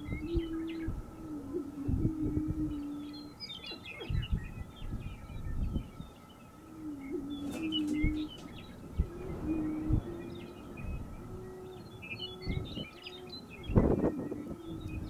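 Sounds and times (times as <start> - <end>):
prairie chickens booming: 0.0 - 15.0
higher chirping calls: 2.7 - 15.0.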